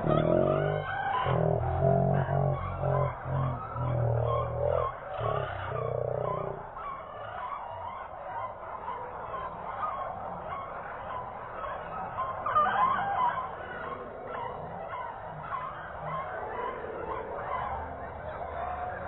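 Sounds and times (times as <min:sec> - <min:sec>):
caged birds chattering and calling: 0:00.0 - 0:18.8.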